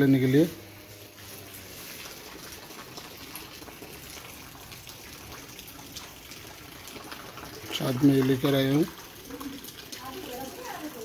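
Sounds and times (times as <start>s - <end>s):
faint drips: 0.0s - 11.0s
rain falling: 0.0s - 11.0s.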